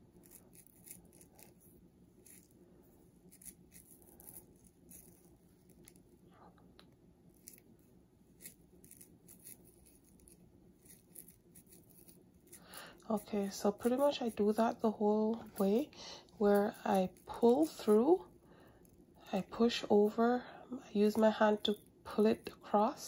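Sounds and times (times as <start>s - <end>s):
scratchy rustles of hair: 0.0s - 6.3s, 7.3s - 23.0s.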